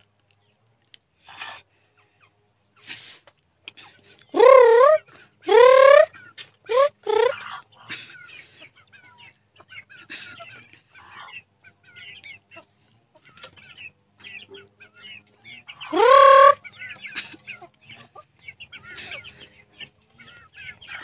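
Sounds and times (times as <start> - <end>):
chickens clucking and calling: 0.1 - 21.0.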